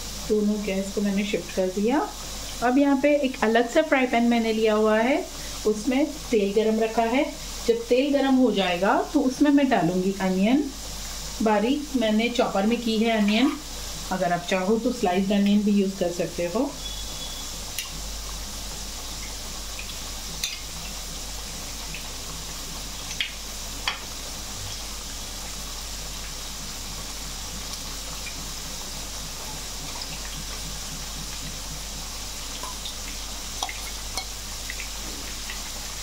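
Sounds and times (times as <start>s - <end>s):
potatoes sizzling in oil: 0.0s - 36.0s.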